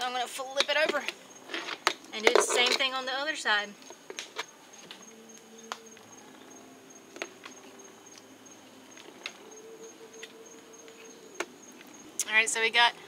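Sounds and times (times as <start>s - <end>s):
faint steady high tone: 2.2s - 13.0s.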